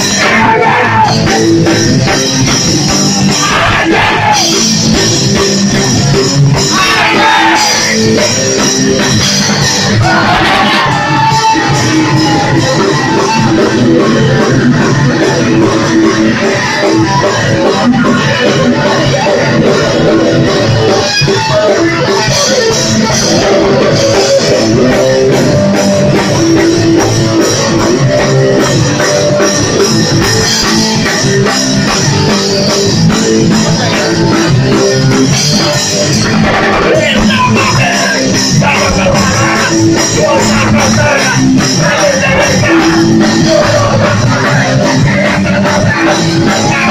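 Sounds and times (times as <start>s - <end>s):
bass guitar: 0.0s - 46.9s
drum kit: 0.0s - 46.9s
electric guitar: 0.0s - 46.9s.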